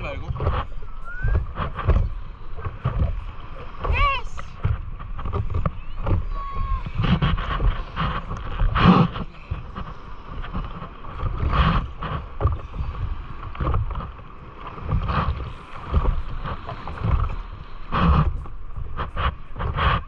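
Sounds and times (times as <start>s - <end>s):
water slapping against surfboard: 0.0s - 20.0s
wind rumbling on microphone: 0.0s - 20.0s.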